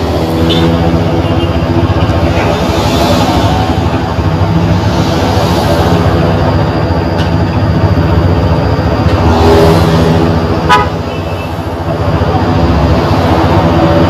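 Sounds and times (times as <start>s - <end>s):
bus engine rough rumble: 0.0s - 14.0s.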